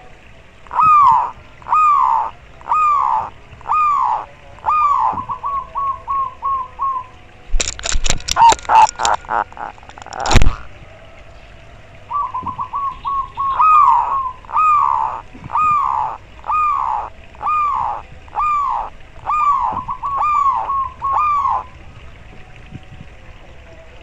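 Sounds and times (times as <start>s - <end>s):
dove cooing: 0.7s - 10.7s, 12.1s - 21.8s.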